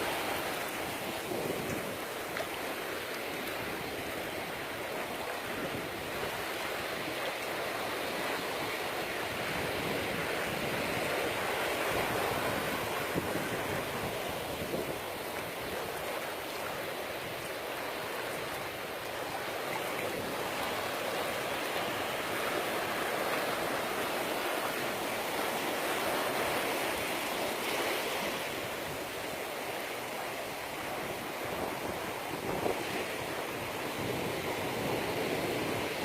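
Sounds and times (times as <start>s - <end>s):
ocean surf breaking: 0.0s - 36.0s.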